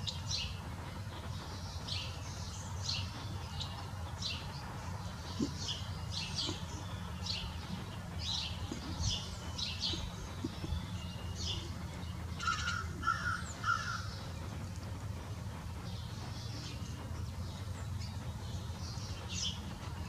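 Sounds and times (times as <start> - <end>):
low background rumble: 0.0 - 20.0
songbirds chirping: 0.0 - 20.0.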